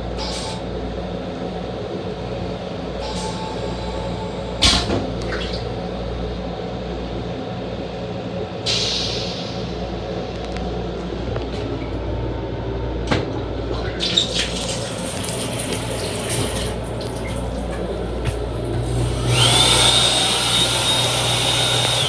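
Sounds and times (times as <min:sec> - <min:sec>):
train hum and rumble: 0:00.0 - 0:22.0.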